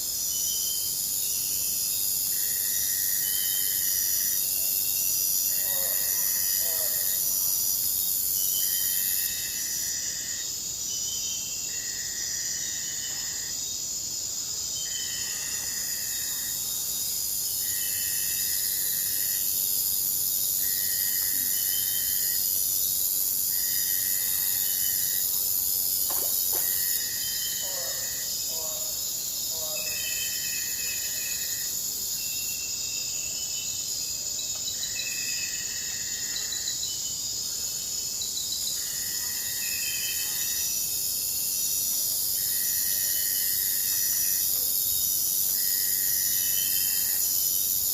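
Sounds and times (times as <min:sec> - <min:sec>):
high-pitched insect chorus: 0:00.0 - 0:47.9
repeating insect call: 0:00.0 - 0:47.9.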